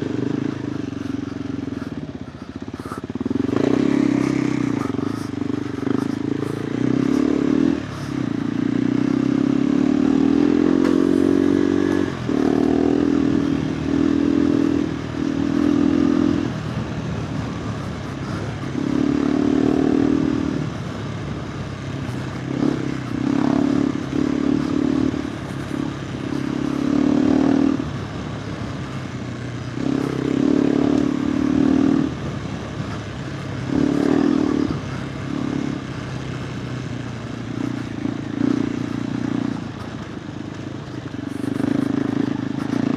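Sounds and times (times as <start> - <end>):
motorcycle engine throttle bursts: 0.0 - 40.1.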